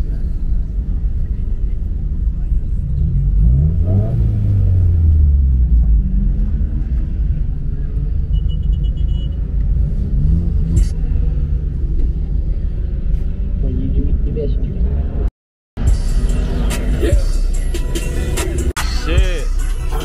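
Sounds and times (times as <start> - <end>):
car engines rumbling: 0.0 - 20.0
car engine revving: 0.4 - 18.8.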